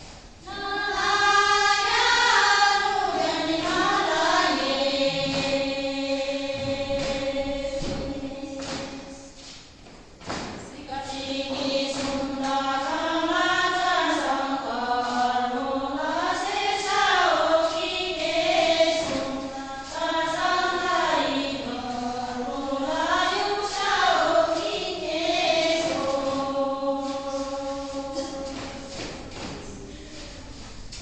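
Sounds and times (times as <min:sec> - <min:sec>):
women singing in unison: 0:00.4 - 0:09.6, 0:10.2 - 0:31.0.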